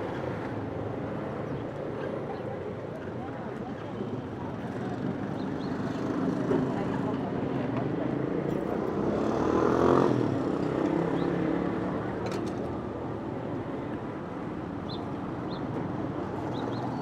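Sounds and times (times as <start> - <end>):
city noise hum: 0.0 - 17.0.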